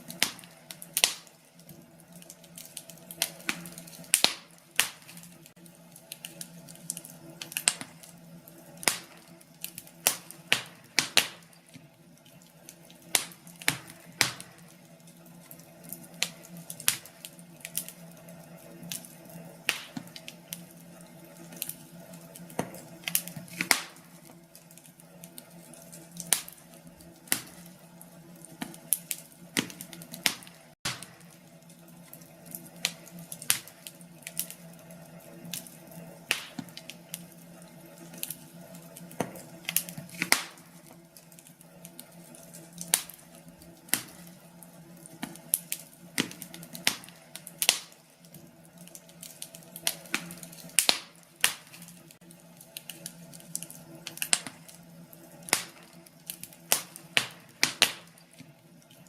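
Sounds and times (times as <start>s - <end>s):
faint steady hum: 0.0s - 59.0s
wood fire crackling and popping: 0.0s - 59.0s.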